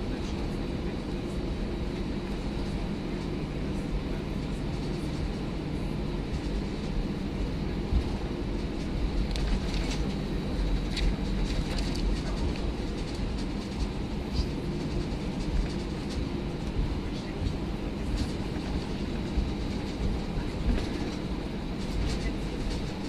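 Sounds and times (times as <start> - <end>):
aircraft cabin rumble: 0.0 - 23.0.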